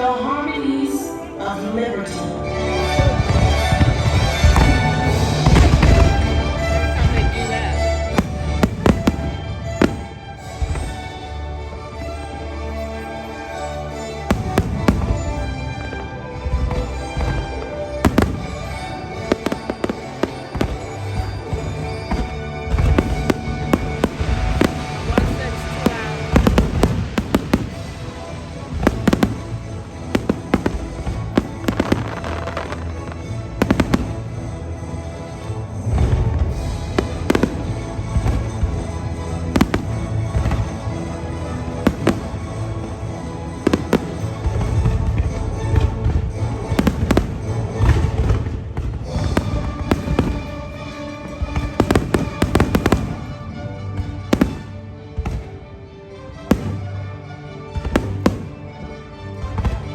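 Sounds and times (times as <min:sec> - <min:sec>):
music soundtrack: 0:00.0 - 0:59.9
fireworks bursting: 0:03.0 - 0:11.4, 0:13.6 - 0:55.6, 0:56.3 - 0:58.8.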